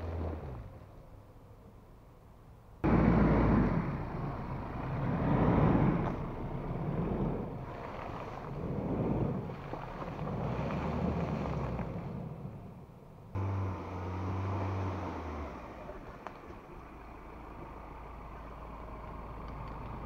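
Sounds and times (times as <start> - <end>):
truck engine under load: 0.0 - 20.0
tyres splashing through mud: 2.8 - 20.0.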